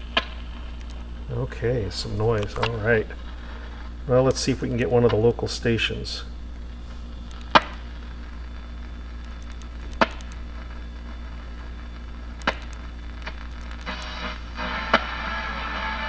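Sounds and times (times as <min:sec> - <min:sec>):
radio static hiss: 0:00.0 - 0:16.0
sharp radio crackles: 0:00.0 - 0:16.0
steady low hum: 0:00.0 - 0:16.0.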